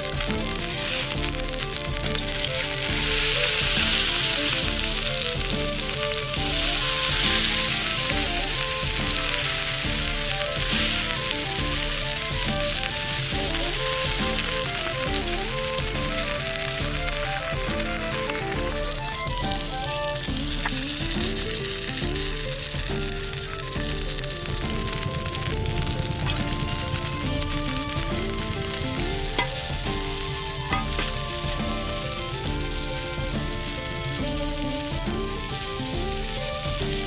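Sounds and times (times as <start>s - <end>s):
background music: 0.0s - 37.0s
food sizzling over a fire: 0.0s - 37.0s.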